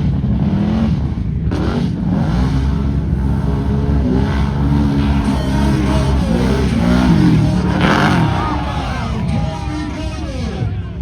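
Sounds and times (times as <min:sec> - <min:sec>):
atv engine revving: 0:00.0 - 0:10.8.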